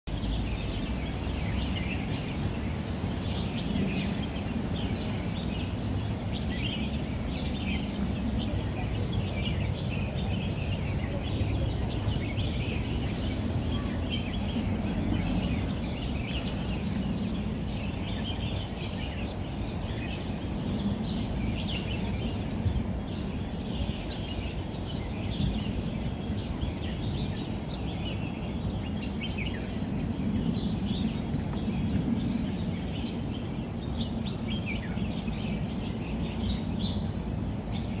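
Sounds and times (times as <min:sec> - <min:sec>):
small birds chirping: 0:00.1 - 0:38.0.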